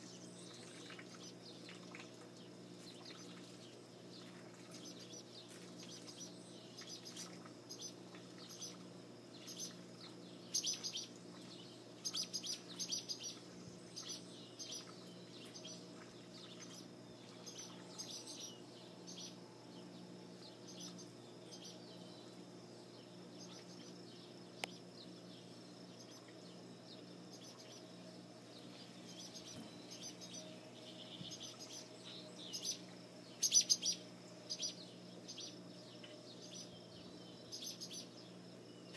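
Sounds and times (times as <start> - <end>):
birds chirping: 0.0 - 38.9
steady low hum: 0.0 - 38.9.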